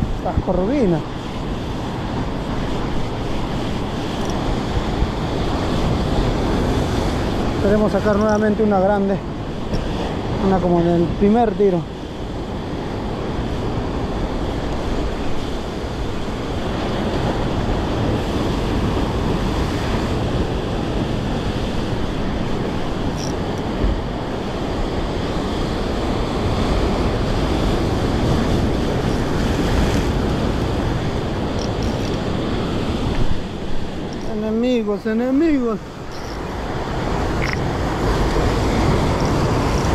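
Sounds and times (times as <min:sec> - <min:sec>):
ocean surf washing onto beach: 0:00.0 - 0:39.9
wind rumbling on microphone: 0:00.0 - 0:39.9.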